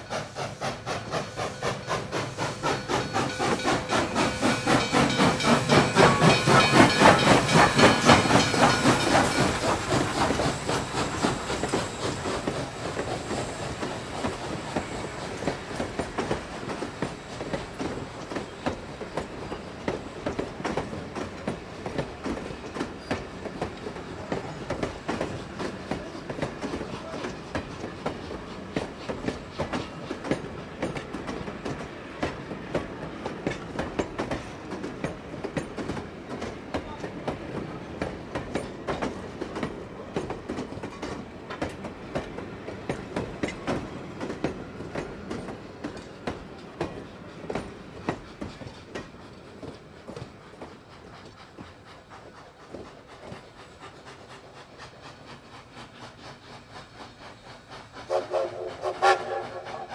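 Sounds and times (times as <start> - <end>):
train wheels clattering over rails: 0.0 - 59.9.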